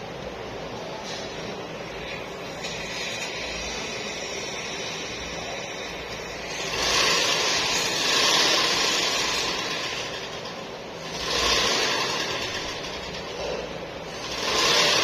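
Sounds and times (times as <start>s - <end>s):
pressurised gas hissing: 1.9s - 15.0s.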